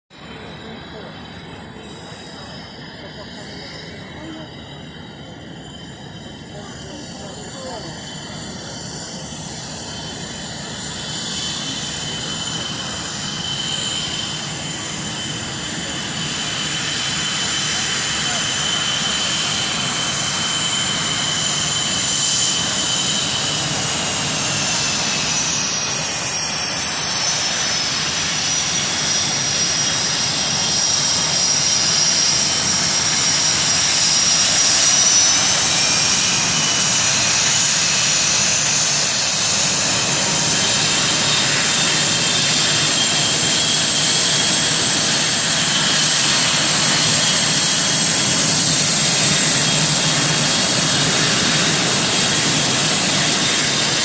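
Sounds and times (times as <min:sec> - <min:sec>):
jet engines whining: 0:00.1 - 0:54.0.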